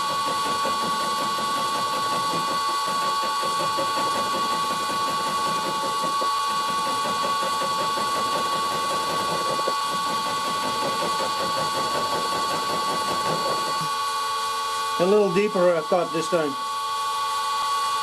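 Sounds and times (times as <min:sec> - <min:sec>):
machine whine: 0:00.0 - 0:18.0
mill cutting steel: 0:00.0 - 0:18.0.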